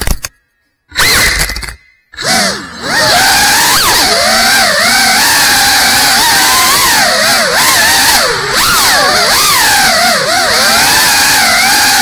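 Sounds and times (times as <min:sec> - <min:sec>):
drone motors whining: 0:00.9 - 0:12.0.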